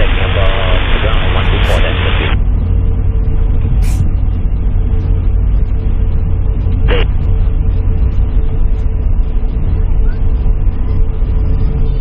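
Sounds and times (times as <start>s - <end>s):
airliner cabin rumble: 0.0s - 12.0s
faint hum: 0.0s - 12.0s.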